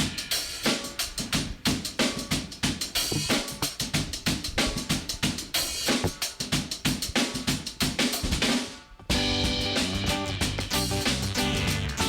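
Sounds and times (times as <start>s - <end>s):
drum kit playing steady beat: 0.0s - 12.0s.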